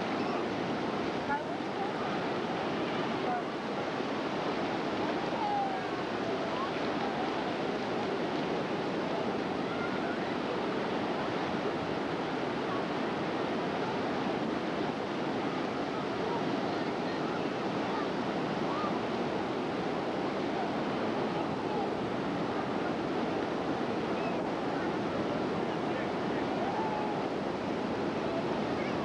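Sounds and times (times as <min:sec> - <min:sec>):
ocean surf breaking on beach: 0:00.0 - 0:29.0.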